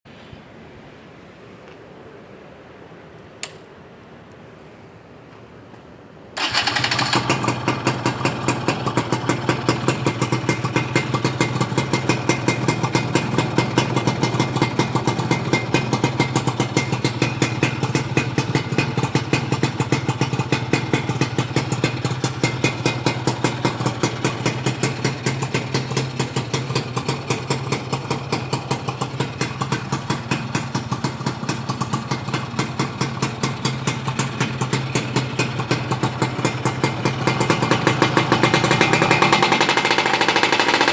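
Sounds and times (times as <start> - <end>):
two-stroke engine idling: 6.4 - 40.9.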